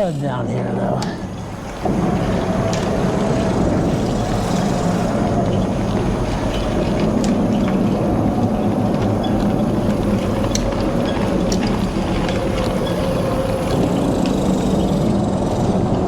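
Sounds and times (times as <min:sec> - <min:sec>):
small clicks and ticks: 0:01.0 - 0:16.0
bike tyres rumbling on muddy trail: 0:01.1 - 0:16.0.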